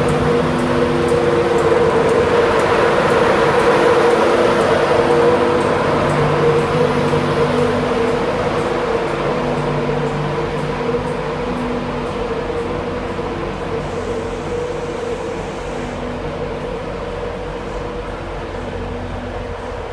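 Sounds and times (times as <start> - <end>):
electric locomotive humming: 0.0 - 19.9
train running noise: 0.0 - 19.9
whining tones: 0.0 - 19.9.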